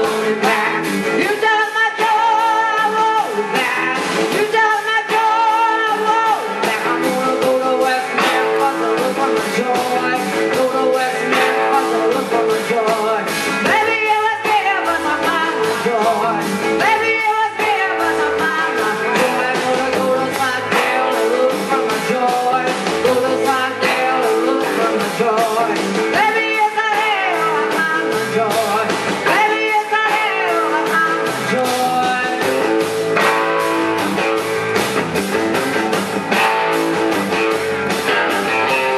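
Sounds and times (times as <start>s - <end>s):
woman singing: 0.0s - 32.8s
live rock band playing: 0.0s - 38.9s.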